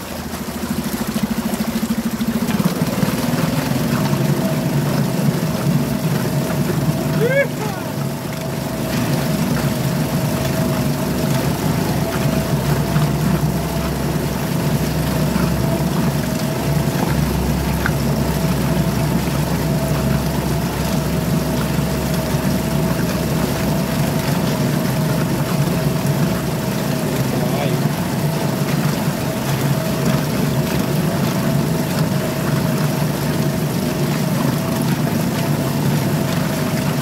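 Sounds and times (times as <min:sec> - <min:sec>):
outboard motor running: 0:00.0 - 0:37.0
propeller churning water: 0:00.0 - 0:37.0.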